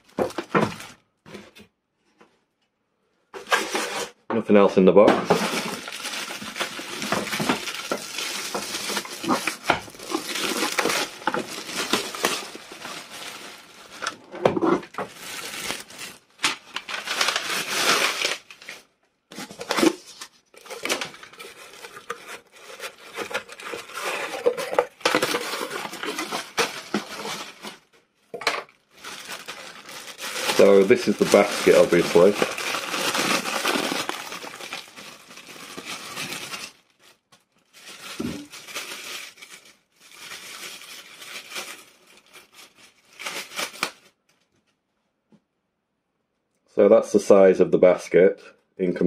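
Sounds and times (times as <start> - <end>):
plastic film crinkling: 0.0 - 1.5, 5.2 - 44.4.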